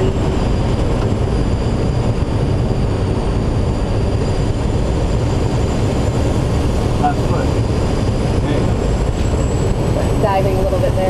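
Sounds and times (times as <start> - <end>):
air rushing around glider: 0.0 - 11.0.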